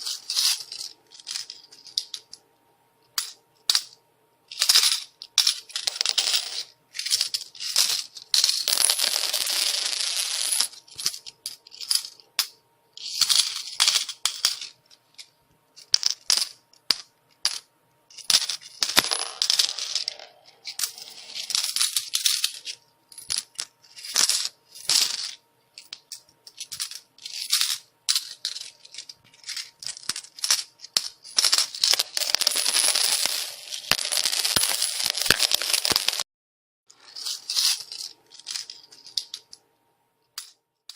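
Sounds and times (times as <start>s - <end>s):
coins dropping and jingling: 0.0s - 2.3s, 4.5s - 36.2s, 37.1s - 39.6s, 40.4s - 40.6s.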